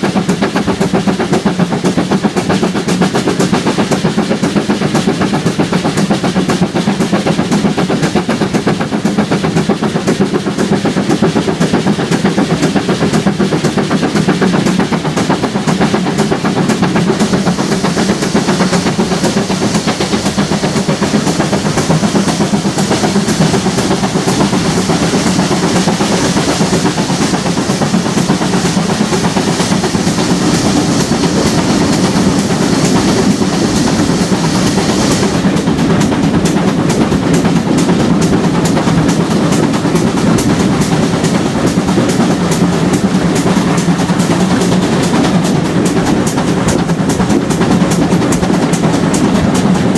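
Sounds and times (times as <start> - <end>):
train rumbling: 0.0 - 49.9
wheels clacking over rails: 0.0 - 49.9.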